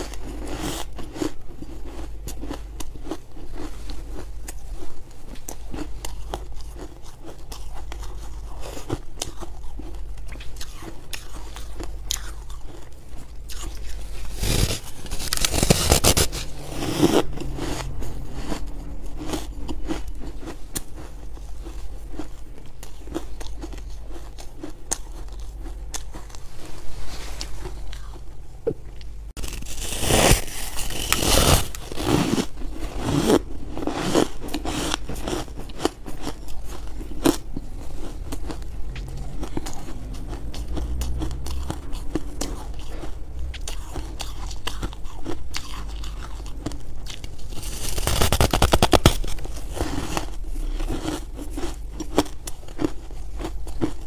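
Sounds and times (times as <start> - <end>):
ice crunching while chewed: 0.0 - 28.3, 28.9 - 54.0.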